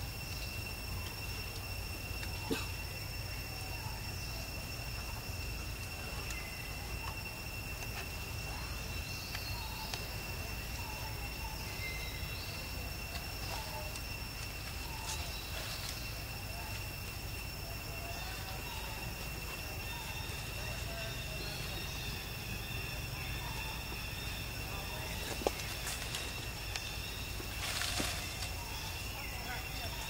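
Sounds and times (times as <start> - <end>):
high-pitched insect drone: 0.0 - 30.0.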